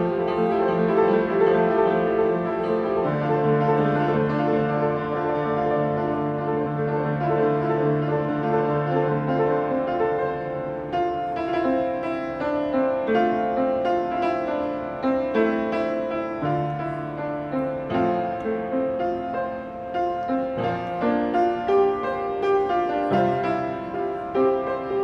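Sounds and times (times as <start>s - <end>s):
solo piano piece: 0.0s - 25.0s.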